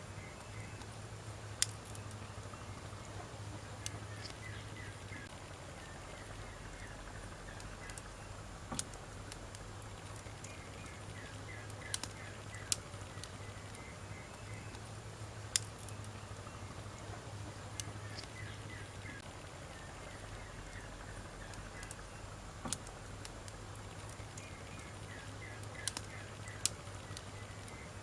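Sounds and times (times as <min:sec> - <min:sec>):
bird chirping: 0:00.0 - 0:01.0, 0:01.6 - 0:08.5, 0:10.1 - 0:14.9, 0:15.5 - 0:22.8, 0:24.0 - 0:28.0
campfire hissing: 0:00.0 - 0:28.0
fire crackling and popping: 0:00.0 - 0:28.0.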